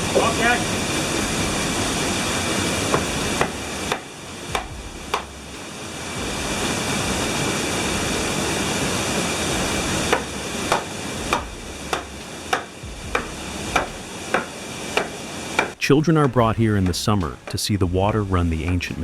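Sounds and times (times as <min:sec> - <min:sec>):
saw mechanism knocking: 0:00.0 - 0:17.6
rushing water: 0:00.0 - 0:18.6.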